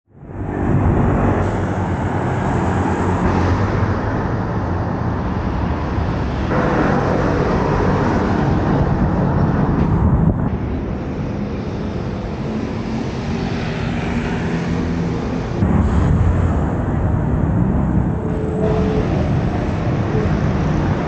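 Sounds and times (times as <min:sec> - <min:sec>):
road traffic: 0:00.1 - 0:21.0.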